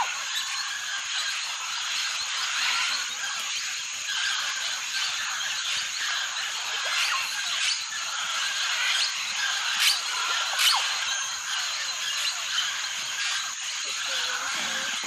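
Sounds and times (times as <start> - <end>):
chorus of calling insects: 0.0 - 15.0
falling whistled bird calls: 0.0 - 15.0.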